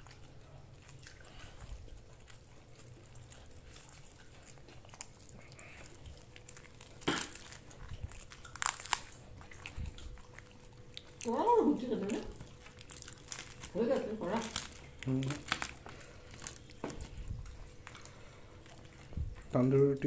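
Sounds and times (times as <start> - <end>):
chewing with clicks: 0.0 - 19.8.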